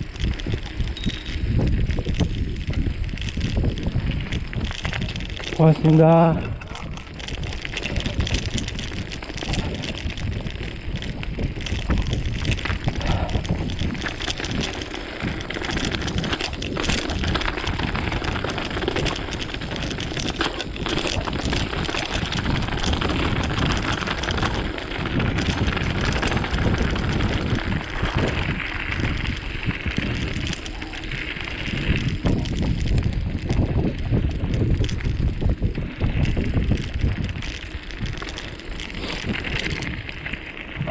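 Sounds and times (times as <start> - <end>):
bicycle tyre rumble: 0.0 - 40.9
rattling clicks over bumps: 0.0 - 40.9
wind buffeting microphone: 0.0 - 40.9.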